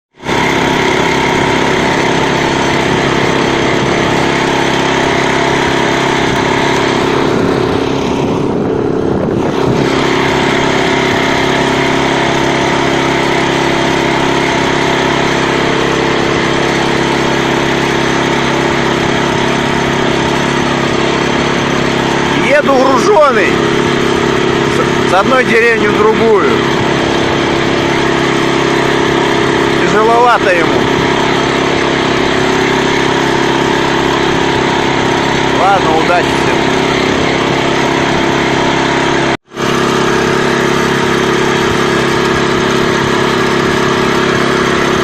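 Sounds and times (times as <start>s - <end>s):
walk-behind tractor engine running: 0.0s - 45.0s.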